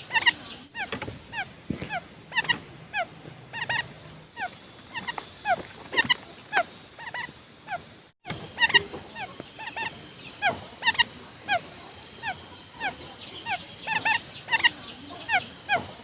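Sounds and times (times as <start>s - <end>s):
quail calling: 0.0s - 16.0s.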